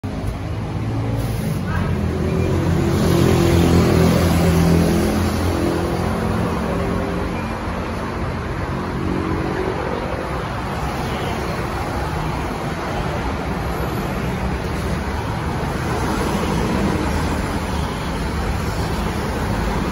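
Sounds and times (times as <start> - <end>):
road traffic passing: 0.0 - 19.9.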